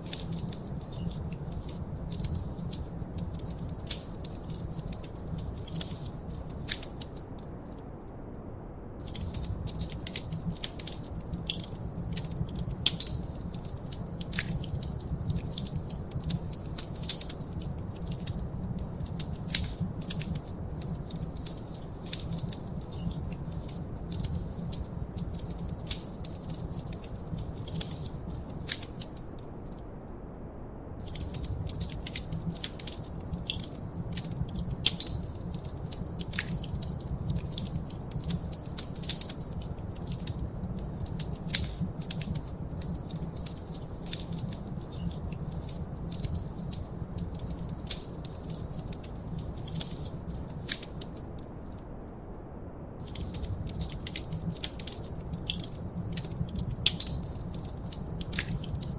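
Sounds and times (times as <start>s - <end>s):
low fire rumble: 0.0s - 7.8s, 8.8s - 58.9s
wood fire crackling: 0.0s - 7.8s, 9.0s - 30.0s, 31.0s - 52.0s, 53.0s - 58.9s.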